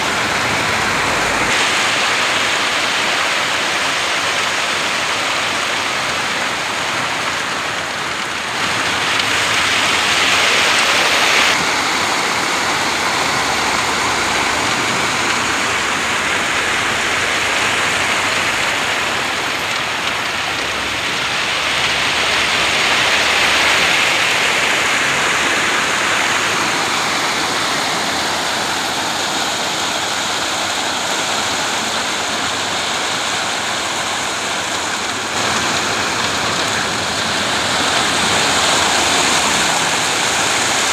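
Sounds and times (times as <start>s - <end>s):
concrete rushing down a chute: 0.0s - 40.9s.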